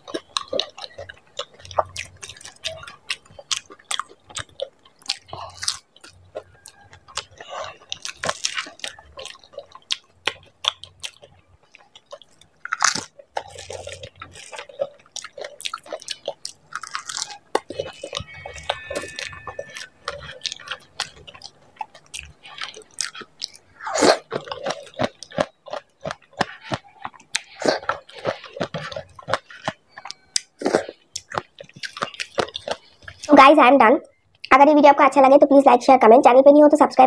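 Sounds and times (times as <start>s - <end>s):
crisp food crunching: 0.0s - 33.3s.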